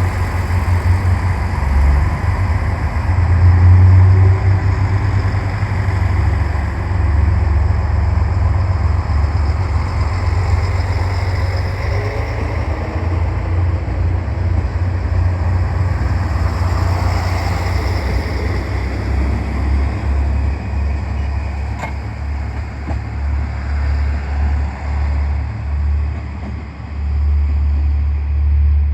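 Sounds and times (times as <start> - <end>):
diesel engine rumbling: 0.0 - 28.9.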